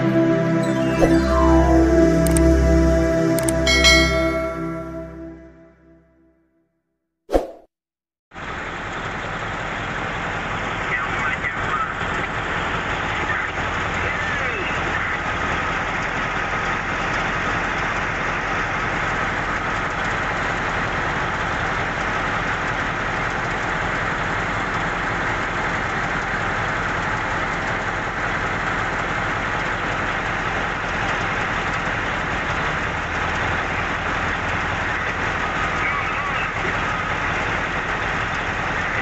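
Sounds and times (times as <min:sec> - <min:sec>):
heavy diesel engine running: 0:00.0 - 0:05.6, 0:08.4 - 0:39.0.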